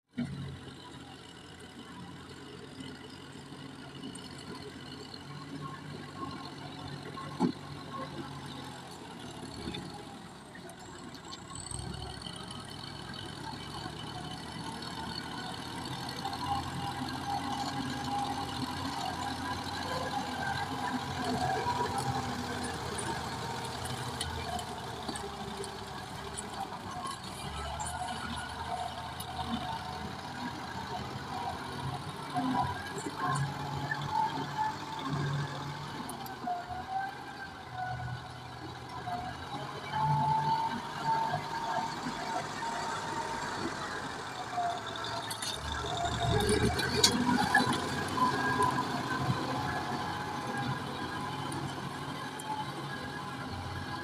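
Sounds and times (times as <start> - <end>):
tractor engine running: 0.1 - 54.0.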